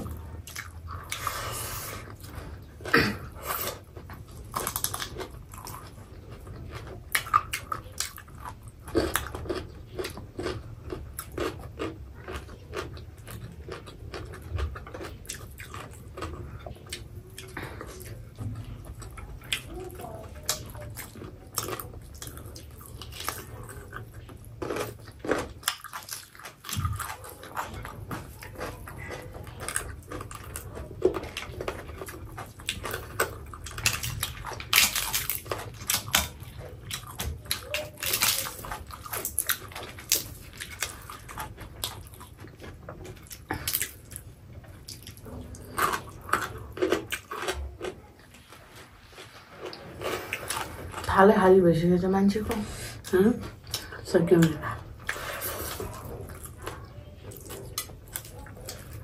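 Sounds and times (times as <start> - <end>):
people chewing and lip smacking: 0.0 - 59.0.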